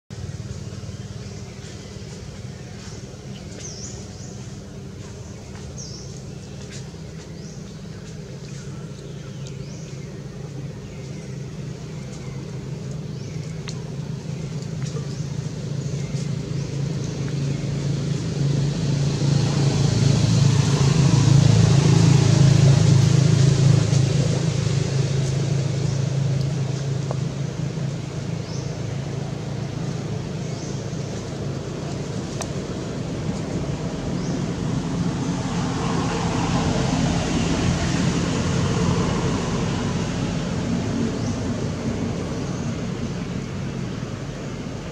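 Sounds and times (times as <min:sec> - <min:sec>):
vehicle engine passing: 0:00.1 - 0:44.9.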